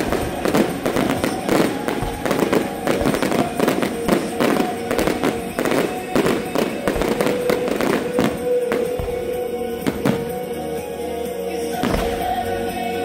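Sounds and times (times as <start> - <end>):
fireworks bangs and crackles: 0.0 - 10.9, 11.7 - 12.9.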